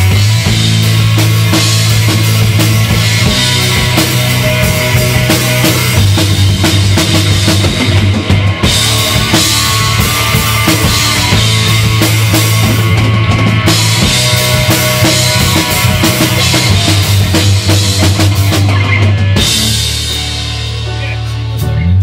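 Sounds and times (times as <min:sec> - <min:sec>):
drum kit: 0:00.0 - 0:22.0
electric guitars: 0:00.0 - 0:22.0
heavy bass line: 0:00.0 - 0:22.0.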